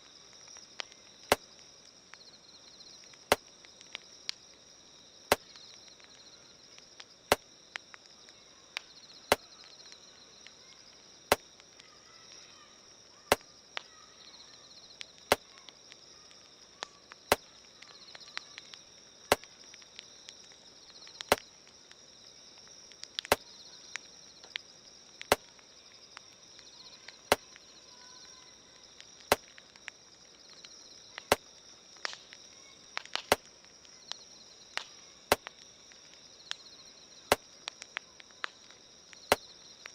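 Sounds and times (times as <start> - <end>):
insect chirring: 0.0 - 39.9
wood fire crackling: 0.0 - 39.9.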